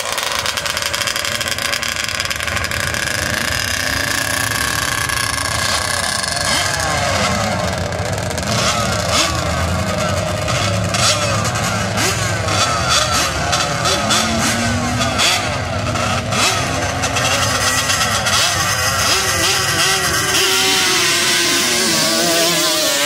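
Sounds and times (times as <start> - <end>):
engine revs: 0.0 - 23.0
vehicle engines whining: 0.0 - 23.0.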